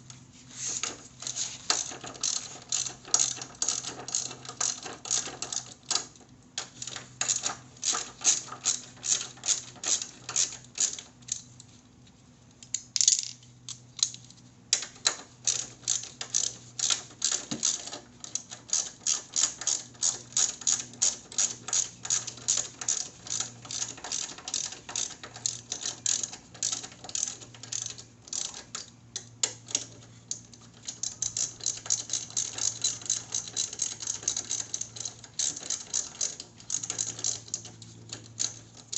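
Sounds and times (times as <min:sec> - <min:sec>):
ratchet wrench clicking: 0:01.2 - 0:11.5, 0:12.6 - 0:38.9.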